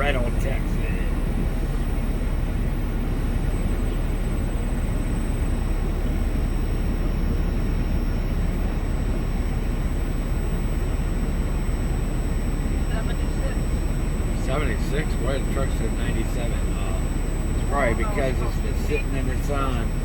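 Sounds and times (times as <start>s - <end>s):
truck engine low rumble: 0.0s - 20.0s.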